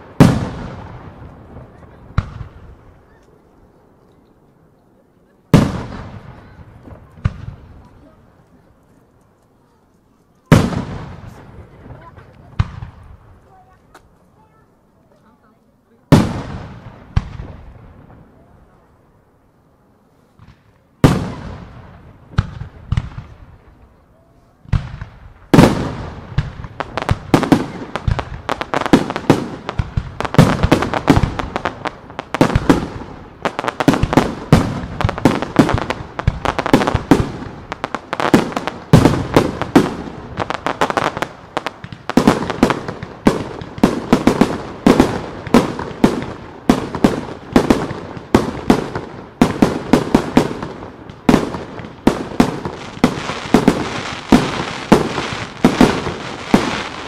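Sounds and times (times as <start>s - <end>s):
fireworks bursting: 0.0s - 19.2s, 20.0s - 57.0s.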